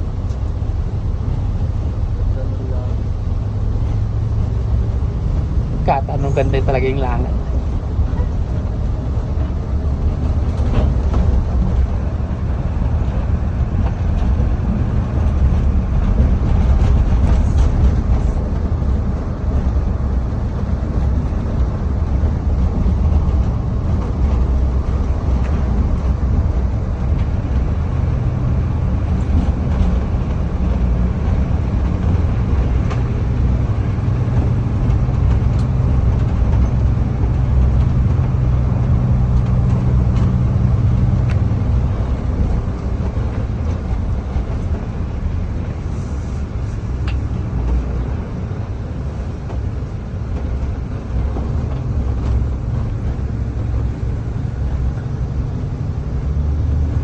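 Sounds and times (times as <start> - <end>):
road noise: 0.0 - 57.0
vehicle engine rumble: 0.0 - 57.0.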